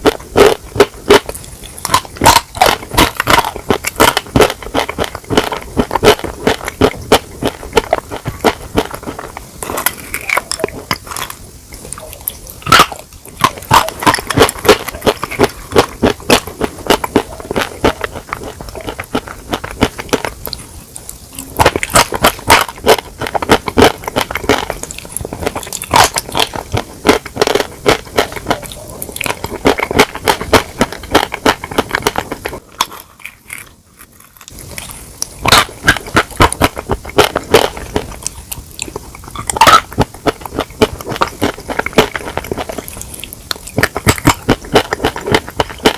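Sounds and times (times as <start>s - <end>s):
person chewing chicken: 0.0s - 45.9s.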